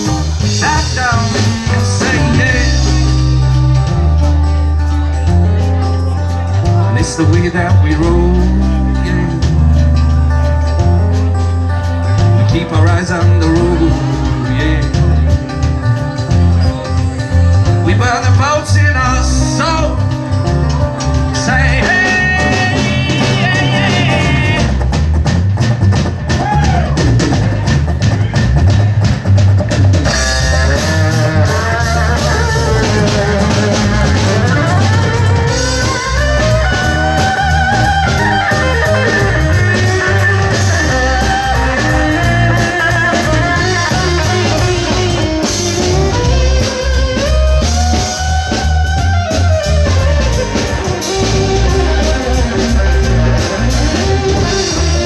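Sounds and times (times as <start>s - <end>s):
drum kit: 0.0s - 55.0s
guitar: 0.0s - 55.0s
pitch-bending lead guitar line: 0.0s - 55.0s.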